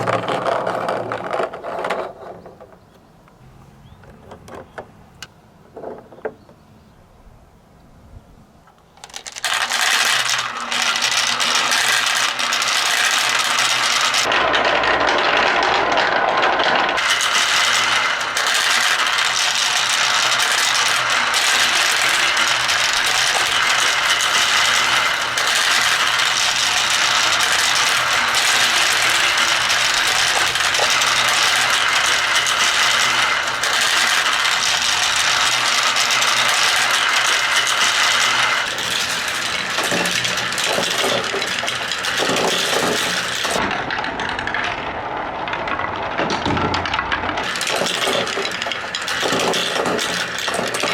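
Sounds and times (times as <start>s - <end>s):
marbles rolling down wooden tracks: 0.0s - 3.0s, 9.0s - 50.9s.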